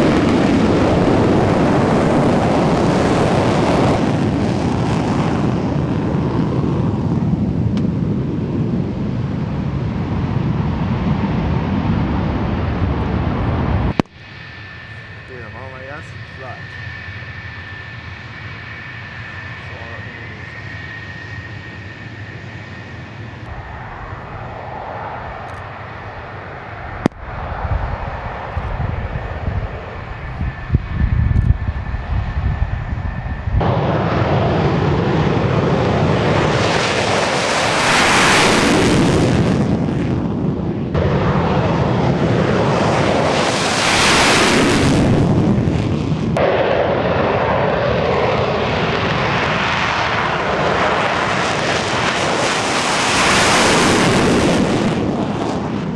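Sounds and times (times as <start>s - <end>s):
jet engine roar: 0.0s - 55.9s
jet engine whine: 0.0s - 55.9s.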